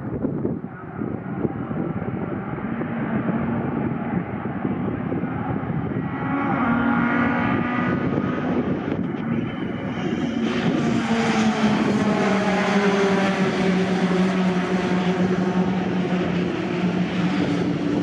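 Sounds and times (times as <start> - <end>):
racing trucks driving past: 2.3 - 18.0.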